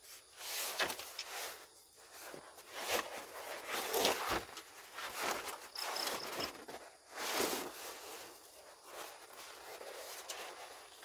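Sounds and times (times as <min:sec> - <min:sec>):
rustling and scuffing: 0:00.0 - 0:11.0.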